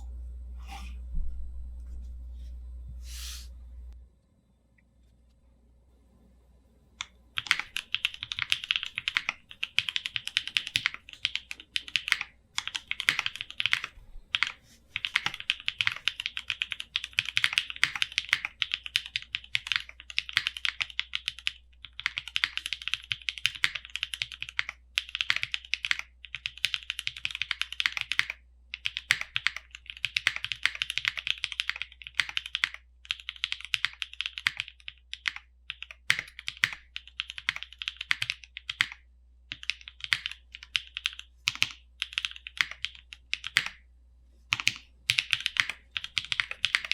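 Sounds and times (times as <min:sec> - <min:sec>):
mechanical keyboard typing: 0:07.0 - 0:43.8, 0:44.5 - 0:46.9.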